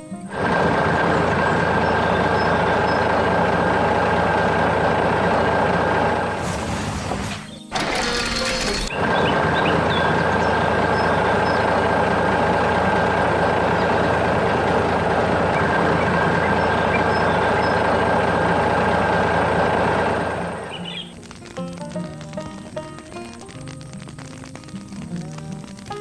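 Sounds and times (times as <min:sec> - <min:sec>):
heavy engine running: 0:00.0 - 0:26.0.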